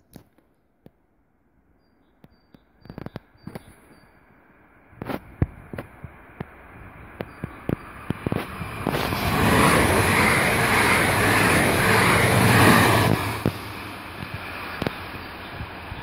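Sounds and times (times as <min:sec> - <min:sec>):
electric train passing at speed: 0:02.8 - 0:16.0.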